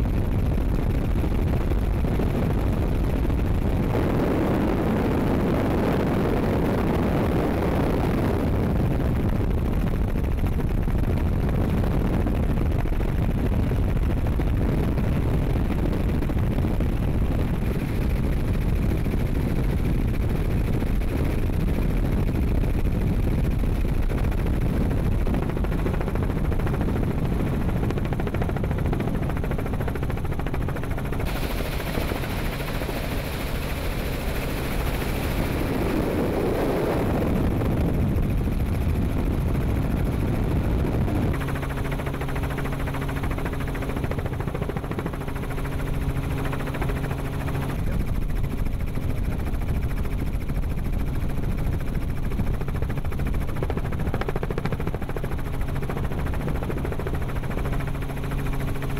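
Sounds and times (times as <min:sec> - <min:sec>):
low hum: 0:00.0 - 0:50.5
helicopter engine and rotor rumble: 0:00.0 - 0:58.9.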